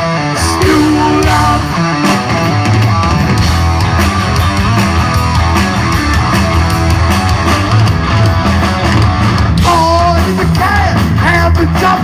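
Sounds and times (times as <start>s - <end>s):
heavy metal band playing: 0.0s - 12.0s.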